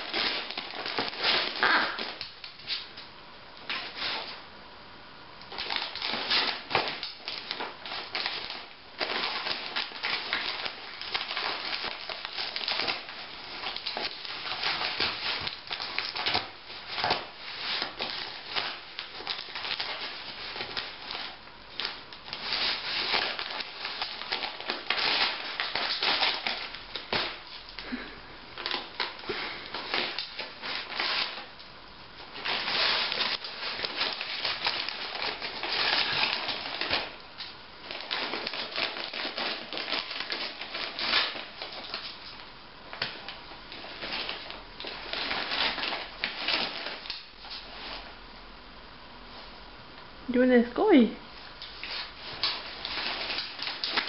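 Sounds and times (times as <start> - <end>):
wrapping paper ripping and crinkling: 0.0 - 3.0, 3.6 - 4.4, 5.5 - 48.2, 51.4 - 54.0.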